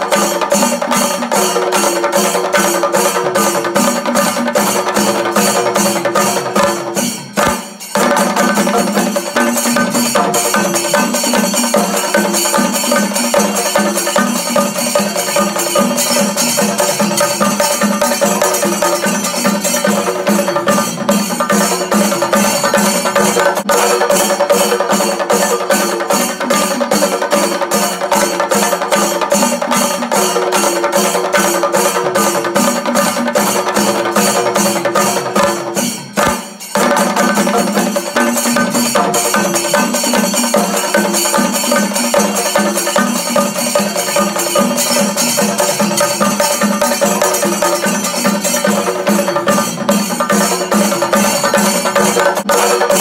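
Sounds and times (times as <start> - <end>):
music with fast percussion beat: 0.0 - 53.0.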